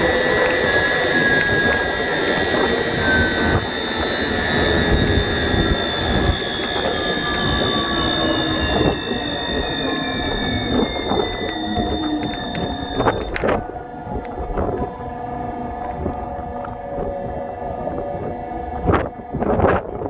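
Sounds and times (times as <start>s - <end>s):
tones gliding down in pitch: 0.0s - 20.0s
wind rumble: 0.0s - 20.0s
wind turbine mechanical whine: 0.0s - 20.0s.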